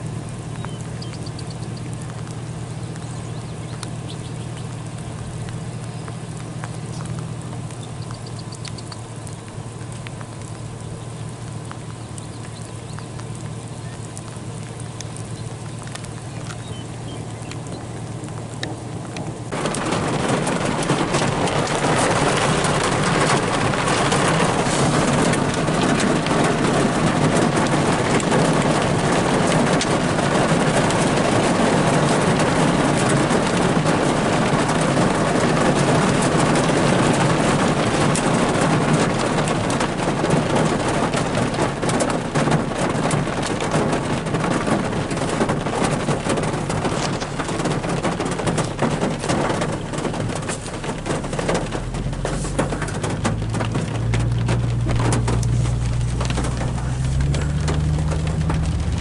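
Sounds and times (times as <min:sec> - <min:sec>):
heavy rain hitting a car: 0:00.0 - 0:59.0.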